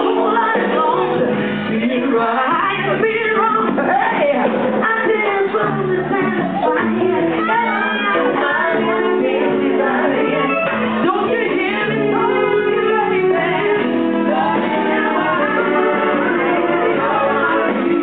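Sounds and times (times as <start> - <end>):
band with keyboards and horns: 0.0 - 18.0
woman singing live: 0.0 - 18.0.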